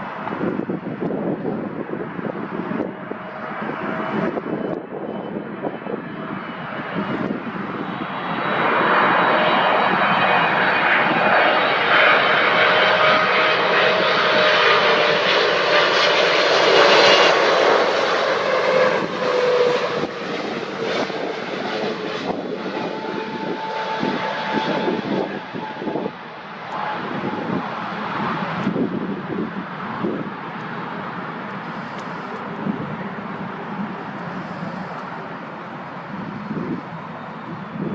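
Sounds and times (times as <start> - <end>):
airliner engine noise: 0.0 - 37.9
wind buffeting microphone: 0.0 - 37.9.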